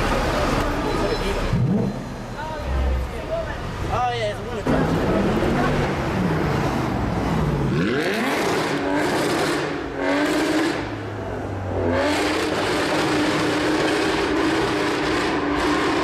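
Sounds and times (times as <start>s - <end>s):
sports car engines revving: 0.0s - 16.0s.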